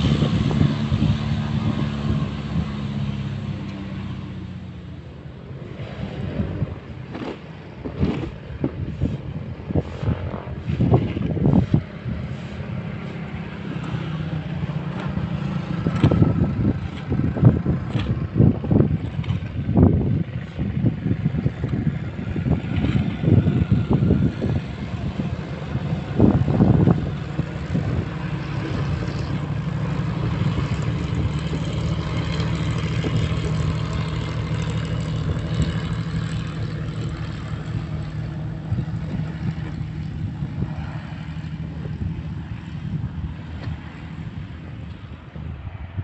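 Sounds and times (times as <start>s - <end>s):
loud buffeting rumbles: 0.0s - 46.0s
propeller airplane engines droning: 0.0s - 46.0s.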